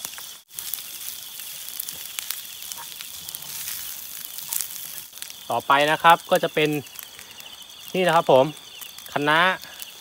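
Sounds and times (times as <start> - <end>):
rice sizzling in a skillet: 0.0 - 10.0
small scattered crackles: 0.0 - 10.0.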